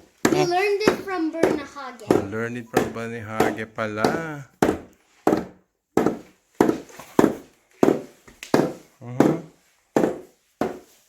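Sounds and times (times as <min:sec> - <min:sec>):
hammer tapping nails: 0:00.0 - 0:10.8.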